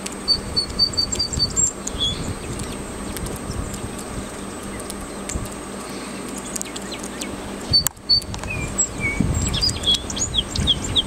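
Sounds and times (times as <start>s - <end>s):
songbird singing: 0.0s - 11.0s
steady background hiss: 0.0s - 11.0s.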